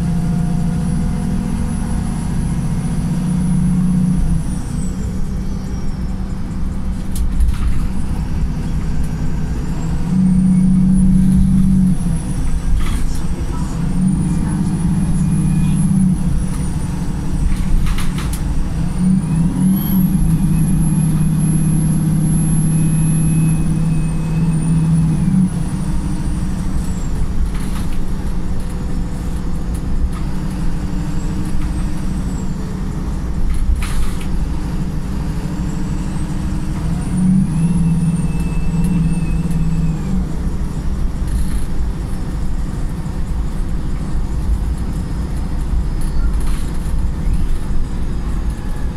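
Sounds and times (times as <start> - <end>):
bus engine with high whine: 0.0 - 48.9.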